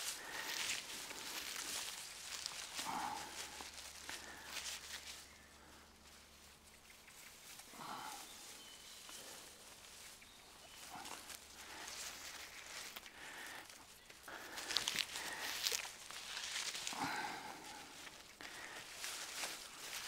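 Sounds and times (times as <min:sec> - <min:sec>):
grass rustling and crackling: 0:00.0 - 0:20.0.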